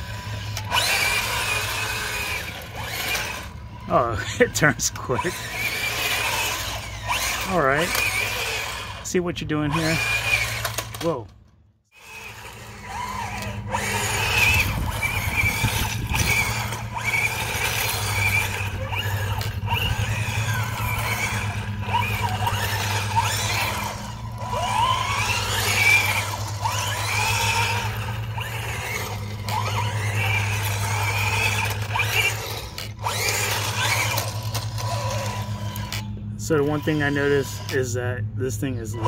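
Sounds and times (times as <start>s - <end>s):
motor whine: 0.0s - 39.0s
toy tank electric motors humming: 0.0s - 39.0s.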